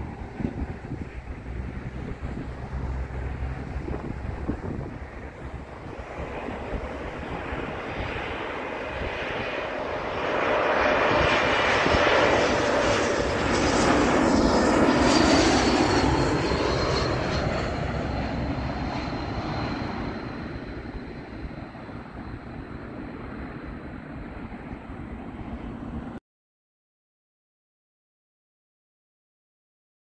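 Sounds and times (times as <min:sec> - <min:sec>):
jet airliner passing overhead: 0:00.0 - 0:26.2
jet fan whine: 0:00.0 - 0:26.2.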